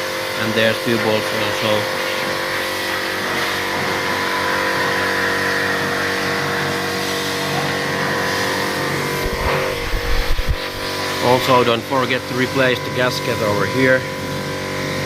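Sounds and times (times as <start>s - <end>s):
machinery drone with whine: 0.0s - 15.0s.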